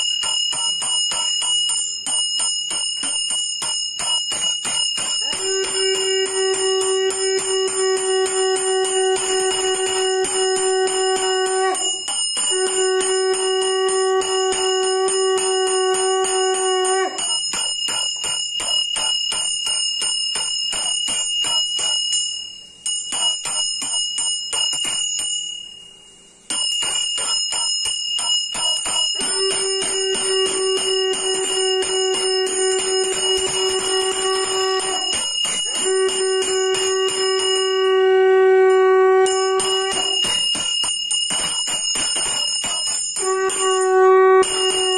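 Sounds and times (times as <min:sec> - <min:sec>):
conch shell blown: 0:00.0 - 0:22.1, 0:26.5 - 0:44.9
hand bell ringing fast: 0:00.0 - 0:44.9.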